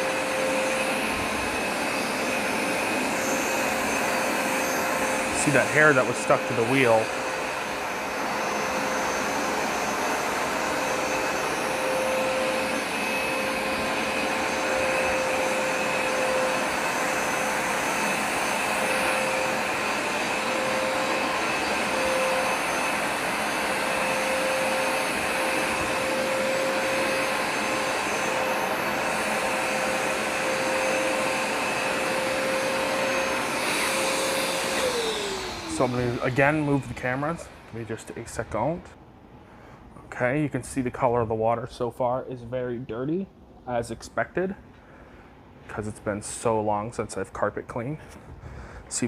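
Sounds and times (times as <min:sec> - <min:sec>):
carpet cleaner running: 0:00.0 - 0:41.1.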